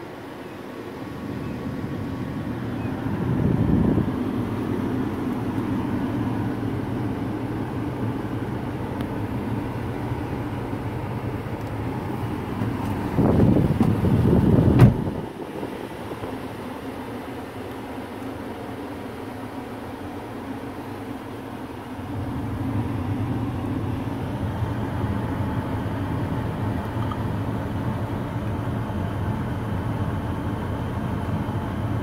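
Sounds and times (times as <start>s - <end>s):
low rumble inside car cabin: 0.0s - 32.0s.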